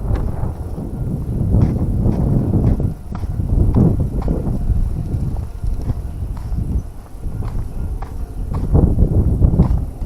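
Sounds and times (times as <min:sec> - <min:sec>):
footsteps on pavement: 0:00.0 - 0:10.0
low steady rumble: 0:00.0 - 0:10.0.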